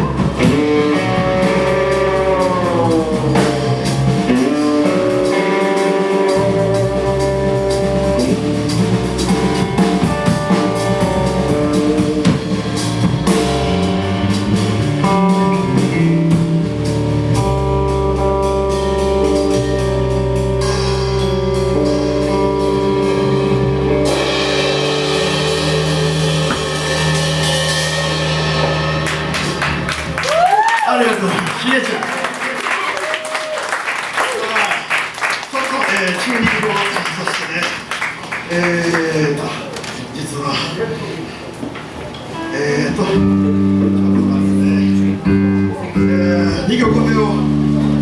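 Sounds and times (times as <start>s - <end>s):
live rock band playing: 0.0s - 38.4s, 41.8s - 48.0s.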